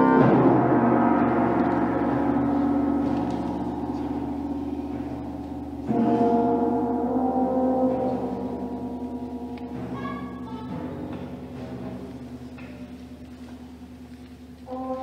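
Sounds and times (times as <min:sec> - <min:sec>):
band and pipe organ chords: 0:00.0 - 0:15.0.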